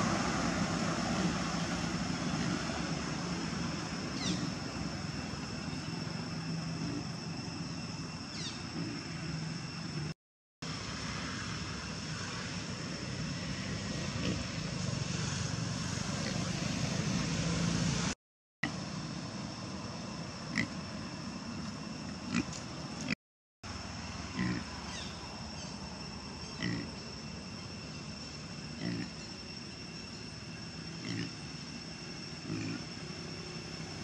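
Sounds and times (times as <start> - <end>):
low outdoor rumble with hum: 0.0 - 34.0.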